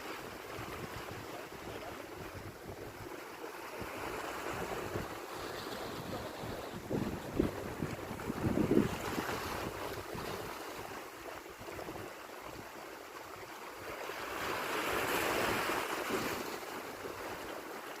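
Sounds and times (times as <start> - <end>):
sea waves washing onto shore: 0.0 - 18.0.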